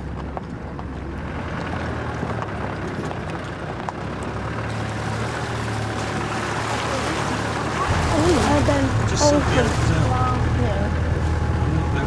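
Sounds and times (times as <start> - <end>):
tyres on rough track: 0.0 - 12.0
vehicle engine running: 0.0 - 12.0.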